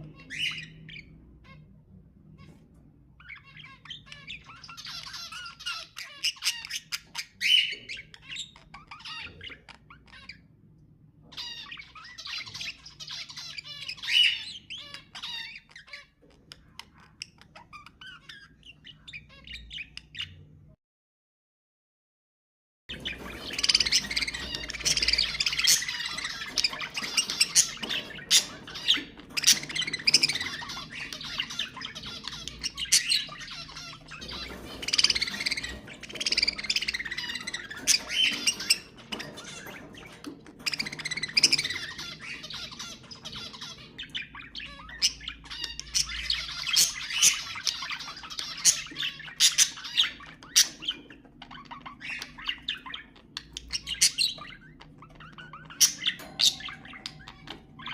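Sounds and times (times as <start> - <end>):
budgerigars warbling and chattering: 0.0 - 20.8, 22.9 - 57.9.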